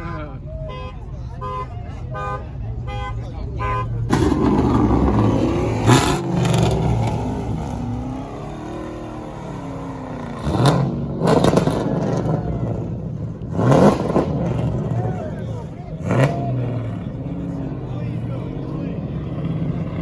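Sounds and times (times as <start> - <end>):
car engines revving hard: 2.0 - 20.0.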